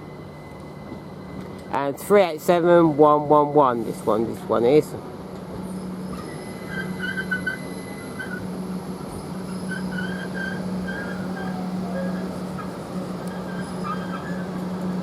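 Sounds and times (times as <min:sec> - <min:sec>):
train electrical hum: 0:00.0 - 0:15.0.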